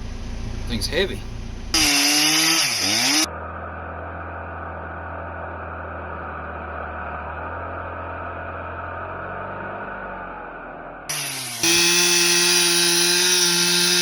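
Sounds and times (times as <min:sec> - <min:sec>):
tractor diesel engine running: 0:00.0 - 0:08.6, 0:10.3 - 0:14.0.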